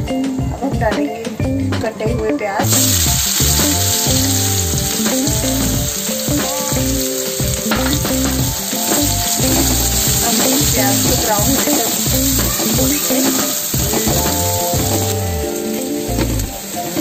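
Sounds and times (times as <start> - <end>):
background music: 0.0 - 17.0
onions sizzling in hot oil: 2.6 - 17.0.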